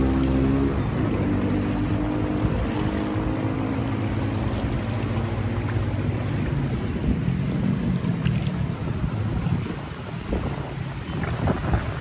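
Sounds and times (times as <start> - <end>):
river rushing over stones: 0.0 - 12.0
wind buffeting microphone: 0.0 - 12.0.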